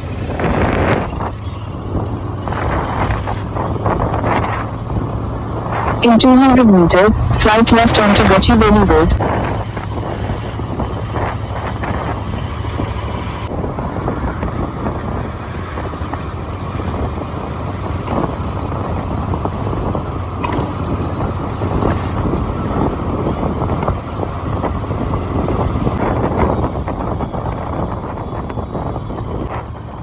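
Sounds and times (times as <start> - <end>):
motorcycle engine and road noise: 0.0 - 30.0
wind buffeting microphone: 0.0 - 30.0.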